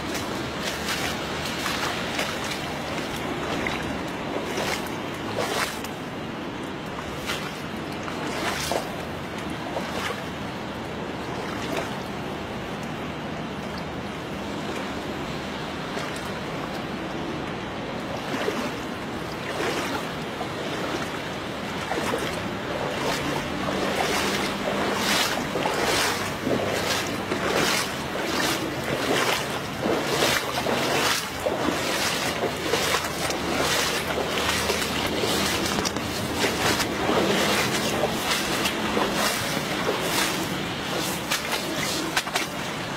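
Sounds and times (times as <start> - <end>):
footsteps on wet ground: 0.0 - 10.5, 18.2 - 42.9.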